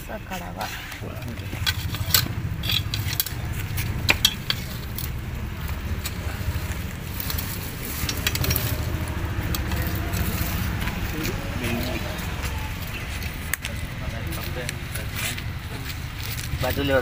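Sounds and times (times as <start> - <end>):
steady low rumble: 0.1 - 17.0
metal hook crackling through dry leaves: 1.5 - 17.0.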